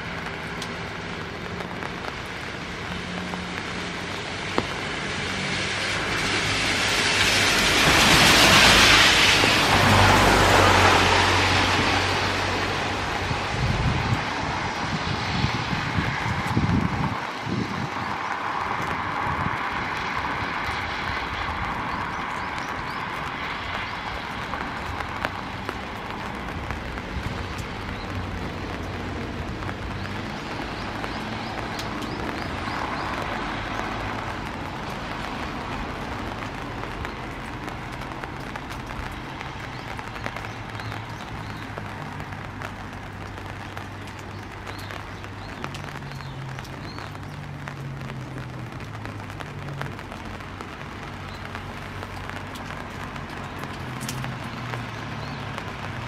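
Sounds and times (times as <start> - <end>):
traffic hum: 0.0 - 56.0
wind rumble on microphone: 0.0 - 56.0.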